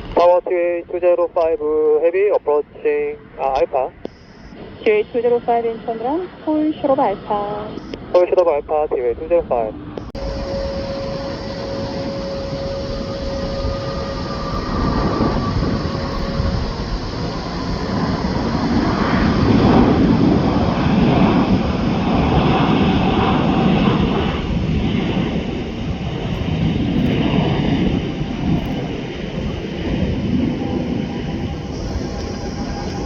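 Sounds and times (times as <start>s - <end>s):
jet engine whine: 0.0s - 33.0s
jet engines roaring: 0.0s - 33.0s.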